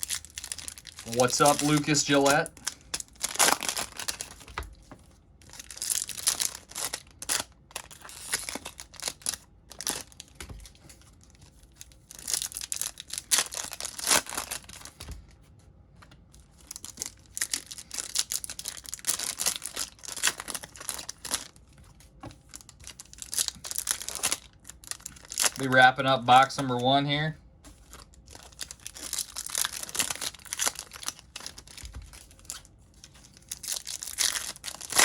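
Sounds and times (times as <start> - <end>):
foil wrappers tearing and crinkling: 0.0 - 4.7, 5.4 - 15.0, 16.5 - 21.8, 22.5 - 27.2, 27.8 - 35.0.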